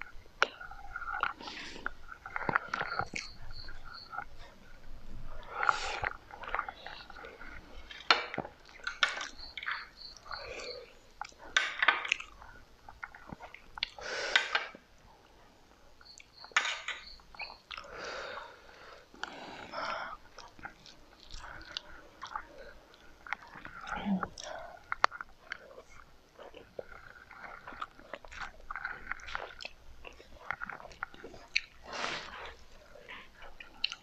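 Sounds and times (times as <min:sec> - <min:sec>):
chewing and biting: 0:00.1 - 0:14.5, 0:19.1 - 0:34.0.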